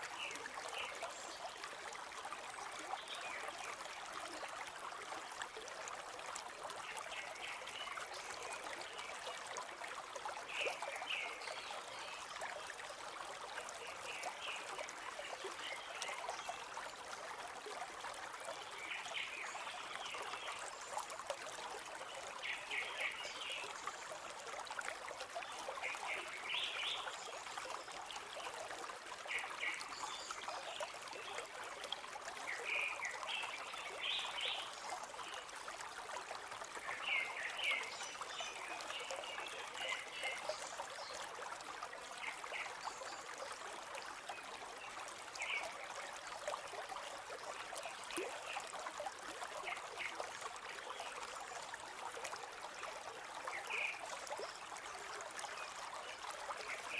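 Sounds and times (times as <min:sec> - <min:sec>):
stream flowing and trickling: 0:00.0 - 0:56.9.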